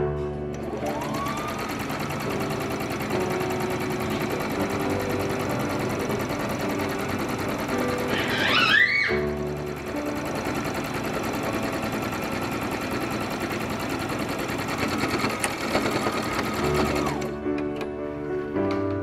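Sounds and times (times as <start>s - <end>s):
electric sewing machine stitching: 0.5s - 17.4s.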